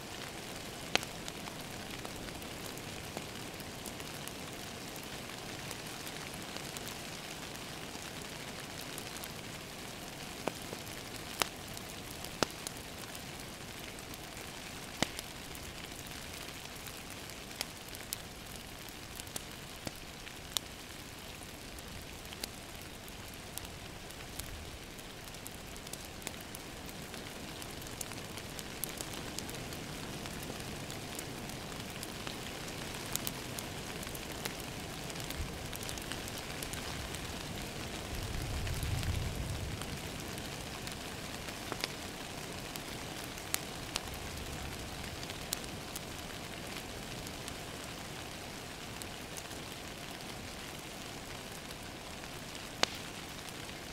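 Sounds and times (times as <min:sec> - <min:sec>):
rain on a window: 0:00.0 - 0:53.9
wood fire crackling: 0:00.0 - 0:53.9.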